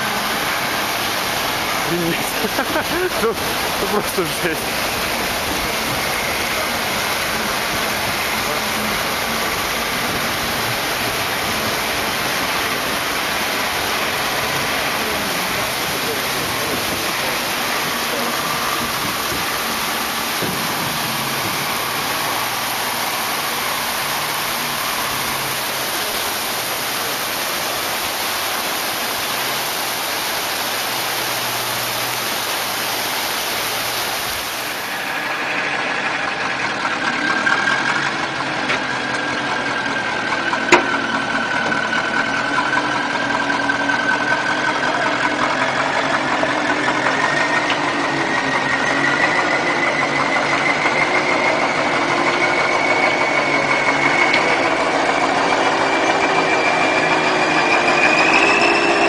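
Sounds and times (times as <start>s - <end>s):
floodwater rushing: 0.0s - 59.0s
rising whine: 0.0s - 59.0s
truck churning through mud: 0.0s - 59.0s
truck diesel engine labouring: 0.0s - 59.0s.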